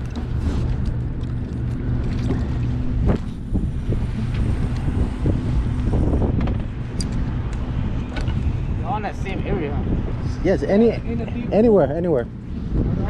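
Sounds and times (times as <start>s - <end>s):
low engine hum: 0.0s - 13.0s
wind noise on microphone: 0.0s - 13.0s.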